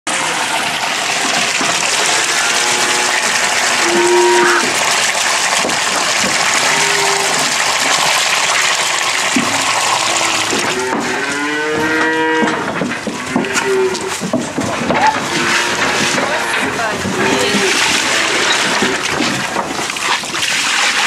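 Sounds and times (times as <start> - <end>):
milk splashing into bucket: 0.2 - 12.0, 15.2 - 21.0.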